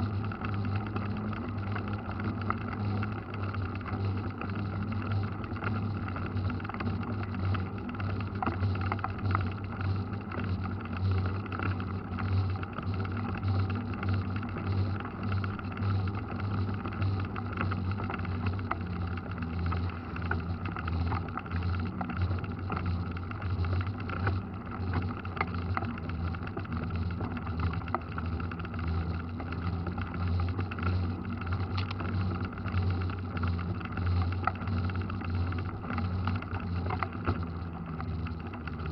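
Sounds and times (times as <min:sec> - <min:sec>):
bike tyres on wet road: 0:00.0 - 0:38.9
small rattles and clicks: 0:00.0 - 0:38.9.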